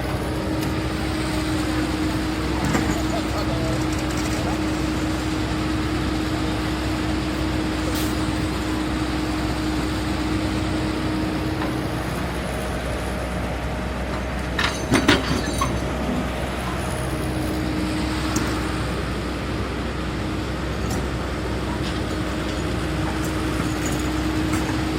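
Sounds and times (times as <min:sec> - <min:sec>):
excavator engine running: 0:00.0 - 0:24.9.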